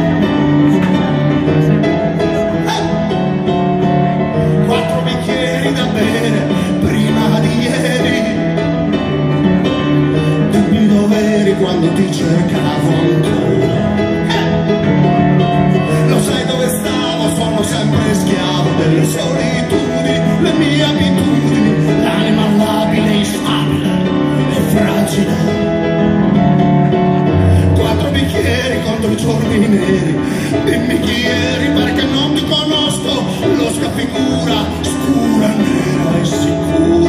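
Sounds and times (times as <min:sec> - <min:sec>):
song with guitar and singing: 0:00.0 - 0:37.0.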